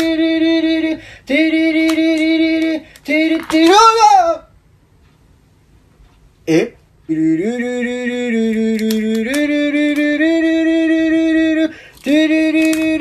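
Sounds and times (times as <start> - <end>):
person humming held notes: 0.0 - 4.0, 6.5 - 13.0.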